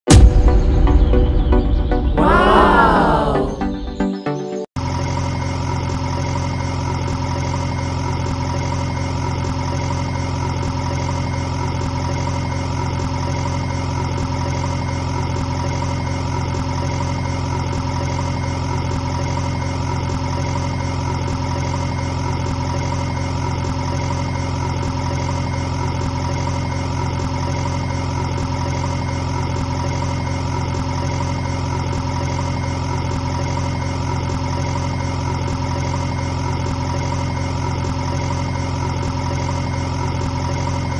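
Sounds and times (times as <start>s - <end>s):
small engine idling: 4.8s - 40.9s.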